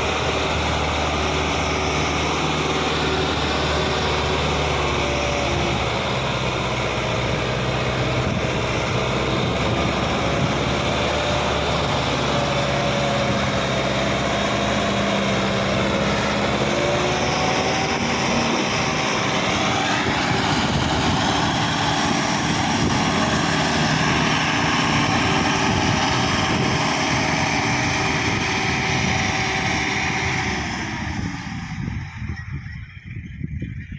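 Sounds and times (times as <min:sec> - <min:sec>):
tractor diesel engine labouring: 0:00.0 - 0:33.9.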